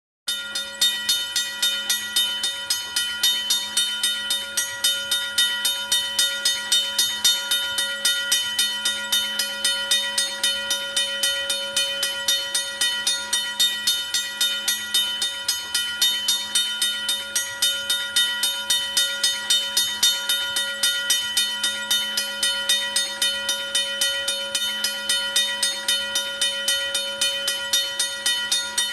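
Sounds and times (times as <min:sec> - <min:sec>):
railroad crossing bell ringing: 0:00.3 - 0:28.9.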